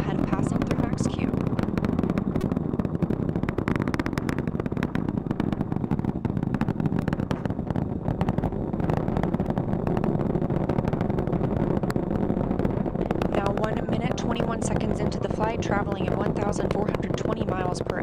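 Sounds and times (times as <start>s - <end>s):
rocket rumble with crackling: 0.0s - 18.0s.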